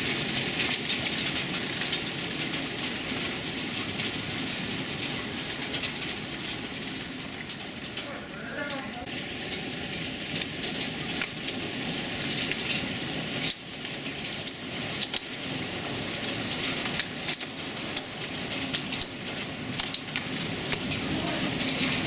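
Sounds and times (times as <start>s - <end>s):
heavy rain: 0.0s - 22.0s
wind: 0.0s - 22.0s.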